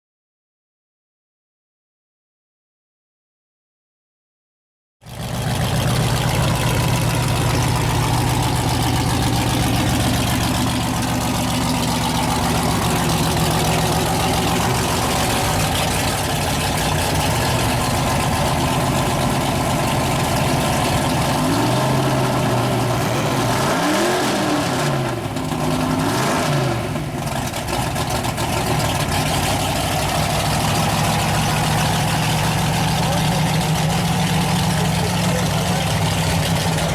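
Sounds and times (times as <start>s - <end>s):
truck engine revving: 5.1s - 36.9s.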